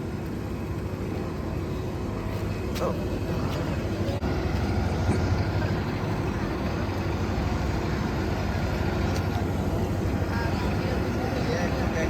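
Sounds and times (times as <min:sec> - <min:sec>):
large engine humming: 0:00.0 - 0:12.0.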